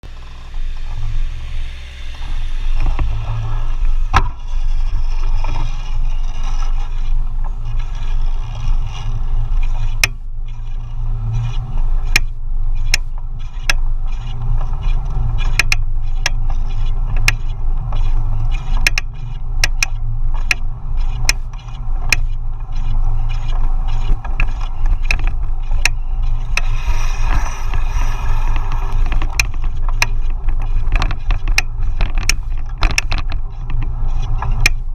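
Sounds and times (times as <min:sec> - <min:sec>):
wind and road rumble: 0:00.0 - 0:34.9.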